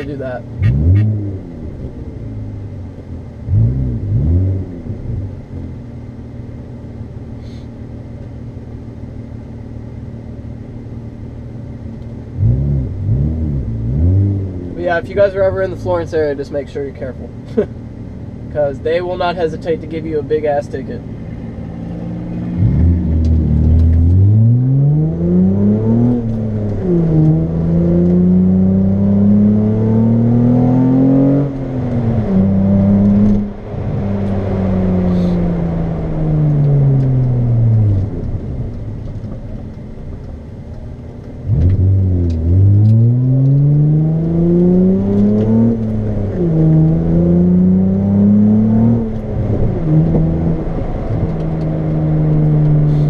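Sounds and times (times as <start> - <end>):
car engine accelerating: 0.0 - 5.8, 11.9 - 53.0.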